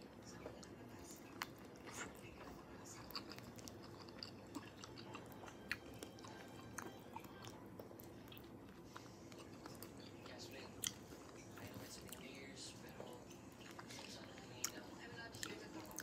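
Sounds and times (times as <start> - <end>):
chewing fruit: 0.0 - 16.0.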